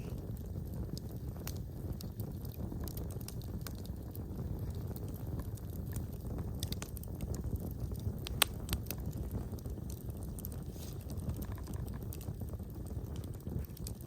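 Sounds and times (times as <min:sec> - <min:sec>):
fire crackling and popping: 0:00.0 - 0:14.0
wood fire rumbling: 0:00.0 - 0:14.0.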